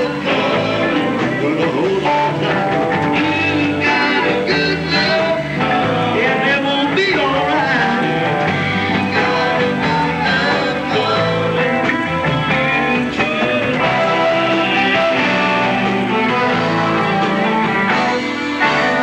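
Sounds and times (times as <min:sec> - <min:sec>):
bass: 0:00.0 - 0:19.0
drums: 0:00.0 - 0:19.0
electric guitar: 0:00.0 - 0:19.0
man singing: 0:00.0 - 0:19.0.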